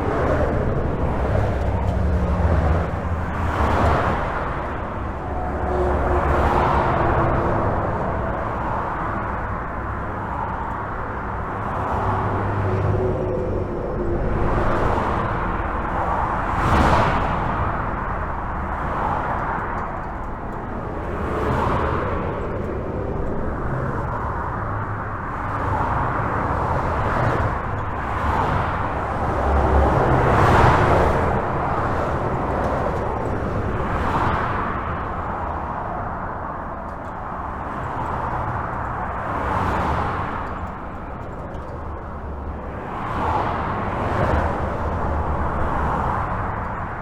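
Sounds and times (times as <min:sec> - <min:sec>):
highway traffic rumble: 0:00.0 - 0:47.0
vehicles passing with tyre whoosh: 0:00.0 - 0:47.0.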